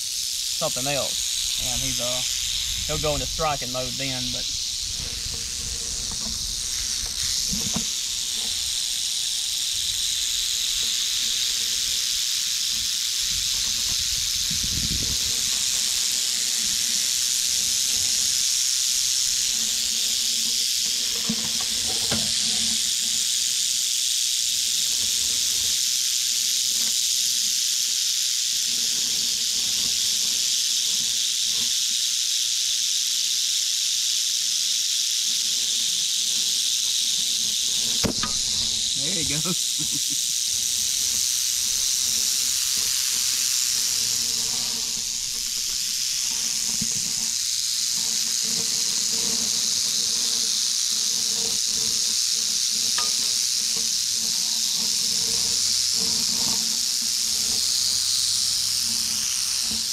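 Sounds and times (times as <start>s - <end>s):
rattlesnake rattling: 0.0s - 59.9s.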